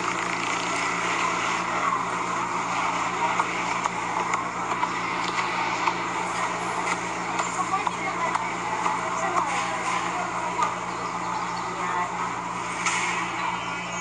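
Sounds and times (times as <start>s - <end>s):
city street traffic: 0.0s - 14.0s
low steady hum: 0.0s - 14.0s.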